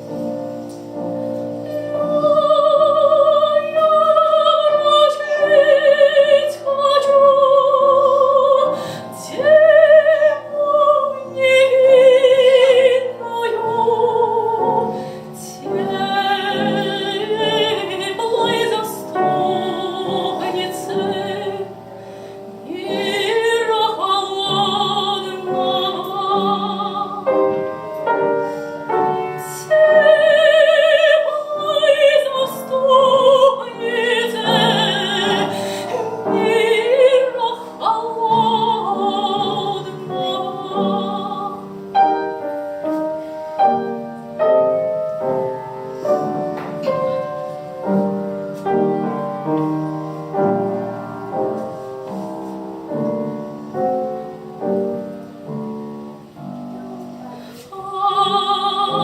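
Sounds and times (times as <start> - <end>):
piano accompaniment: 0.0 - 59.0
woman singing classical song: 0.0 - 59.0.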